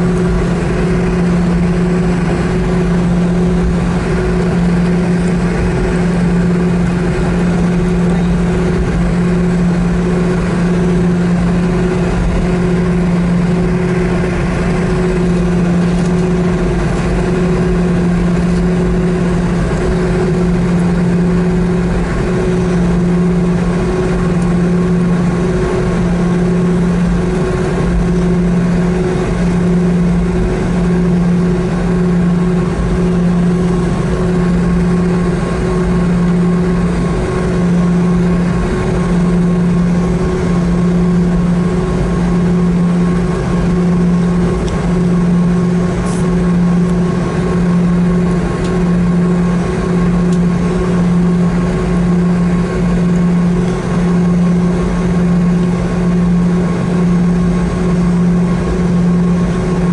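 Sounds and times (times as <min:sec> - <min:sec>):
jet engine droning at low power: 0:00.0 - 0:59.9.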